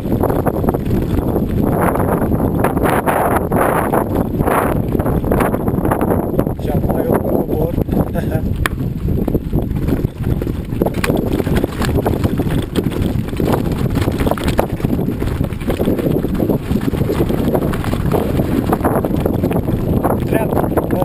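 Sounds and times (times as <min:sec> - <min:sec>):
bike rattling: 0:00.0 - 0:21.0.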